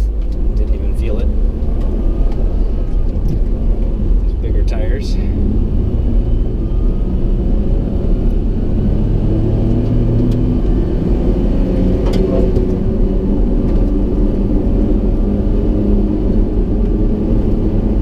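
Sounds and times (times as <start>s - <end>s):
small engine rumble: 0.0s - 18.0s.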